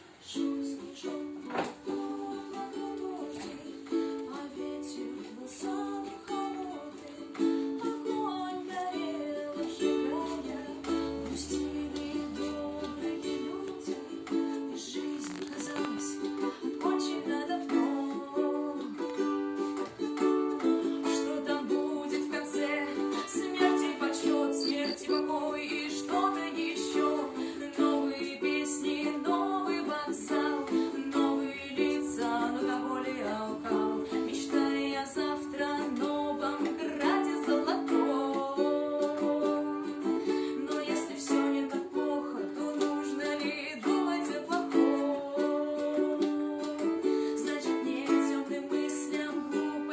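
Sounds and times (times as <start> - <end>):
strummed acoustic string instrument: 0.0 - 49.9.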